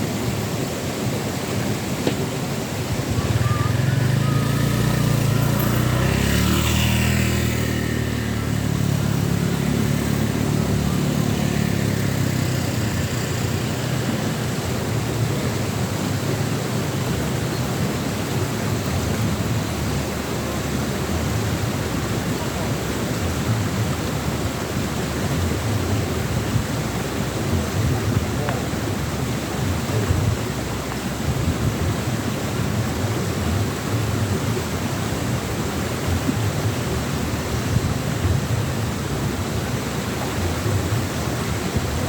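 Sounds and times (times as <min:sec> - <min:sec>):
vehicle engine passing by: 0:02.9 - 0:42.0.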